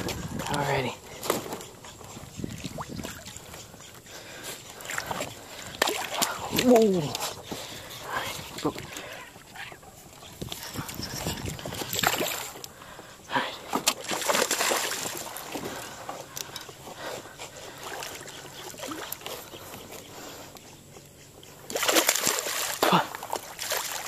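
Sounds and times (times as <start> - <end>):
water sloshing and splashing: 0.0 - 3.9, 4.7 - 12.8, 13.6 - 20.0, 21.6 - 24.0.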